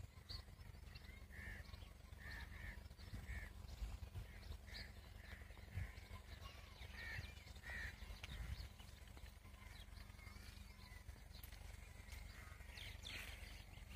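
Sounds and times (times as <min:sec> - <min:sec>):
birds calling: 0:00.0 - 0:13.9
faint low rumble: 0:00.0 - 0:13.9.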